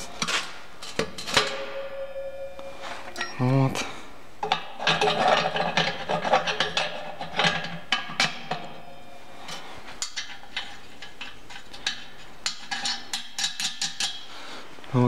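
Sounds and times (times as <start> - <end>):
steel cover scraping and clanking: 0.0 - 3.2, 4.4 - 14.1.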